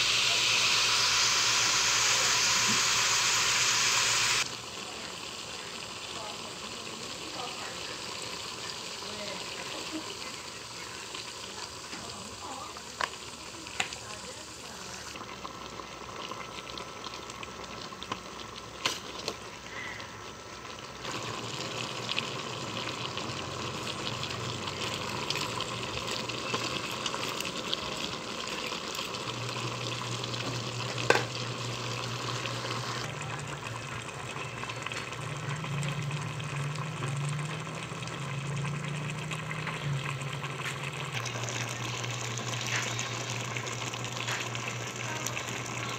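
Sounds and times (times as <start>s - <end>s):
food sizzling in a pot: 0.0s - 45.9s.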